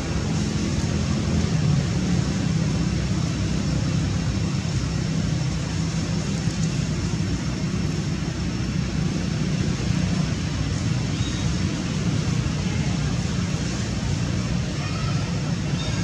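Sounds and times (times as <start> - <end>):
constant hiss: 0.0 - 16.0.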